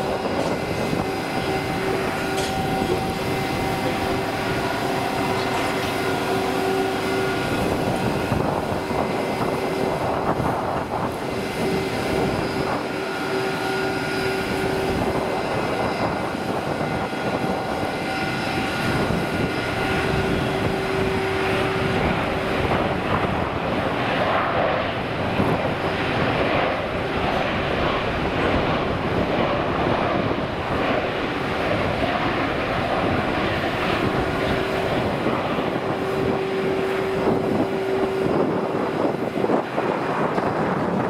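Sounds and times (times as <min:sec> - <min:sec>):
jet engines rushing and whining: 0:00.0 - 0:41.0.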